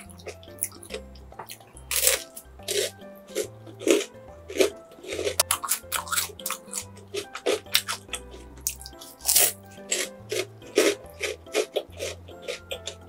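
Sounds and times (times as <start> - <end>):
background music: 0.0 - 13.0
person chewing crisp bread: 0.0 - 13.0.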